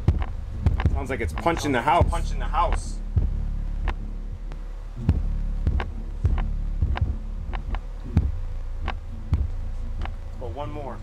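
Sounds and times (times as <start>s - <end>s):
sharp knocks: 0.0s - 4.0s, 5.0s - 10.2s
deep bass test tone: 0.0s - 11.0s.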